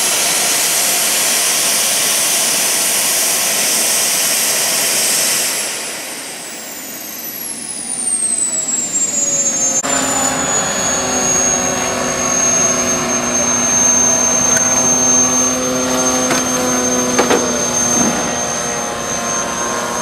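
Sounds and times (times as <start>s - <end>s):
model jet turbine whine: 0.0s - 20.0s.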